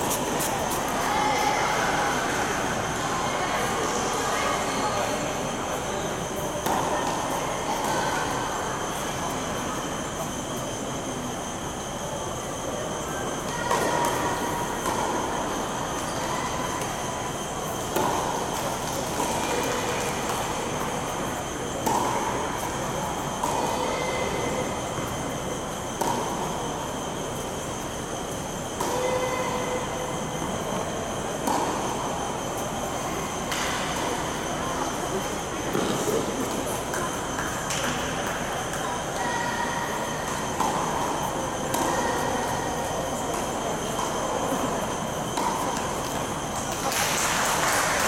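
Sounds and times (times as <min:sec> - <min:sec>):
constant high whine: 0:00.0 - 0:48.0
ventilation hum: 0:00.0 - 0:48.0.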